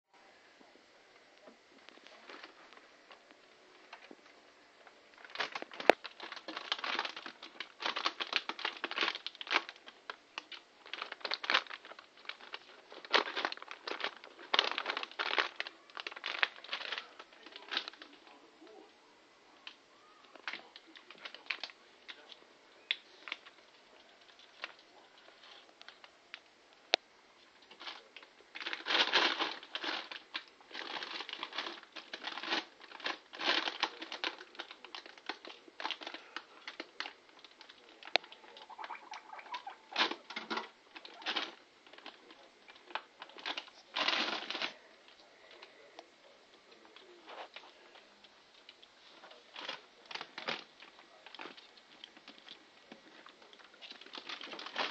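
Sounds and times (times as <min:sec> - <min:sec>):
plastic bags crinkling: 0:01.8 - 0:04.3, 0:04.9 - 0:18.8, 0:19.6 - 0:26.4, 0:27.6 - 0:46.1, 0:46.7 - 0:54.9.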